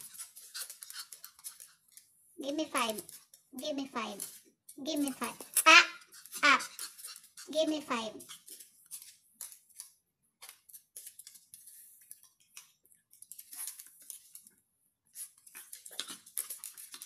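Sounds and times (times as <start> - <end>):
dog claws clicking on wooden floor: 0.0 - 2.1, 4.1 - 7.5, 8.1 - 14.6, 15.2 - 17.0.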